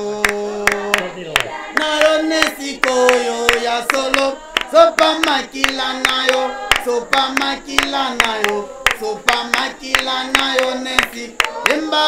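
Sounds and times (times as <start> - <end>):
women and children singing: 0.0 - 12.0
hands clapping in rhythm: 0.1 - 12.0.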